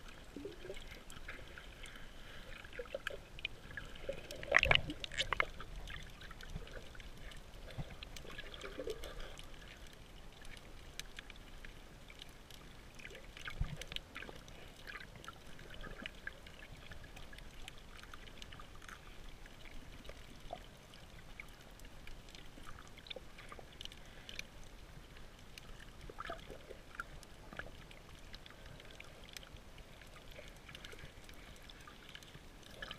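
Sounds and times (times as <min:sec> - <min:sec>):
small underwater clicks: 0:00.0 - 0:32.9
underwater water noise: 0:00.0 - 0:32.9.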